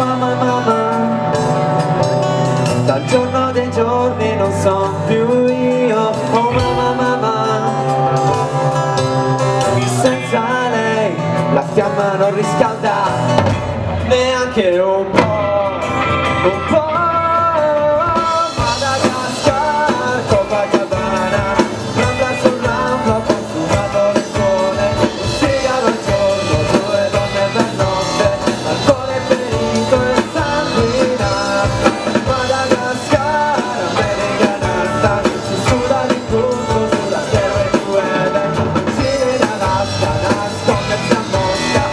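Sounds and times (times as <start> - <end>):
bass guitar: 0.0 - 41.9
drum kit: 0.0 - 41.9
electric guitars: 0.0 - 41.9.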